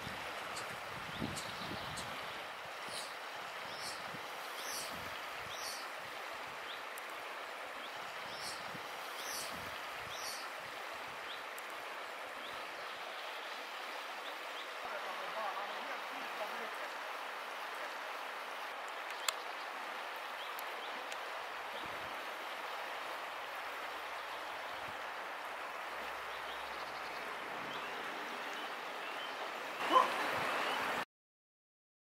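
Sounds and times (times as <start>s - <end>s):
flowing river water: 0.0s - 31.0s.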